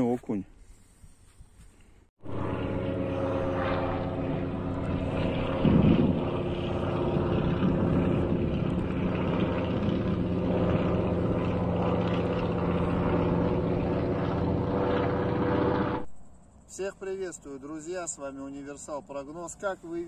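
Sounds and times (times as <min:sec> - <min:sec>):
propeller plane engine overhead: 0:02.2 - 0:20.0.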